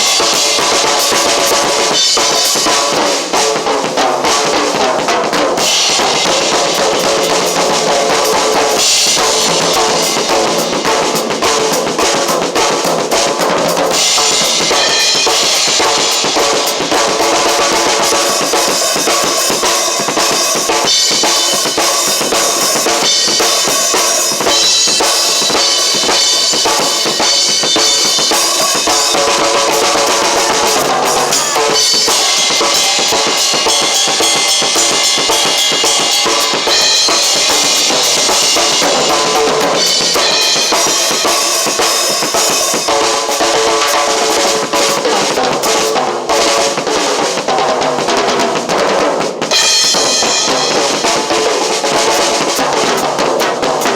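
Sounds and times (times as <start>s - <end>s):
drum kit playing: 0.0s - 53.9s.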